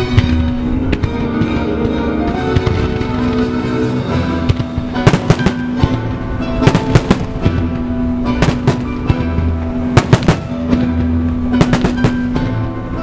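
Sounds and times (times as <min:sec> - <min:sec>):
fireworks bangs and crackles: 0:00.0 - 0:12.8
music playing: 0:00.0 - 0:13.0.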